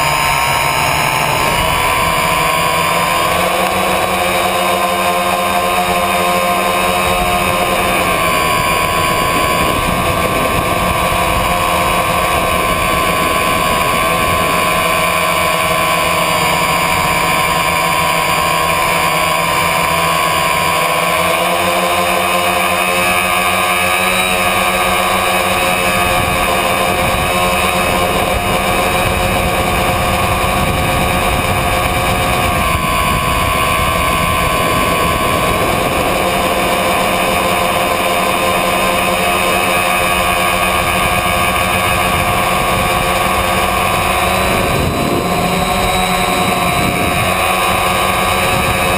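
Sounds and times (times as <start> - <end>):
drone motors whining: 0.0 - 48.9.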